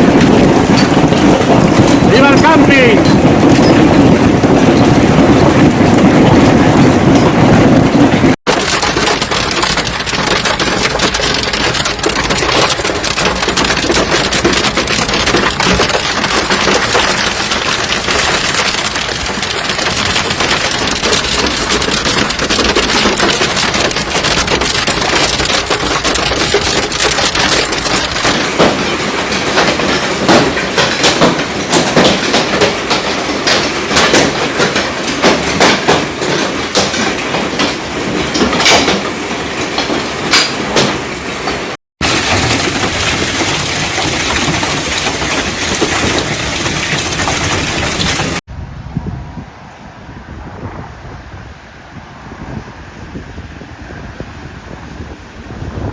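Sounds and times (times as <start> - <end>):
hailstones clattering: 0.0 - 40.9, 42.0 - 48.4.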